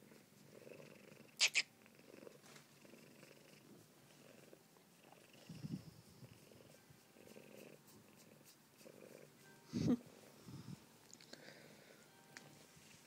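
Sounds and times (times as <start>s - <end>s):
cat purring: 0.0s - 10.8s.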